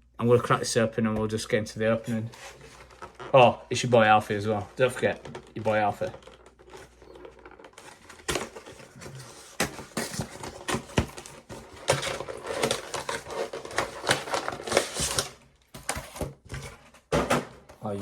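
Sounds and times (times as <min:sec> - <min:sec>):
cardboard crackling and scraping: 0:01.8 - 0:17.2.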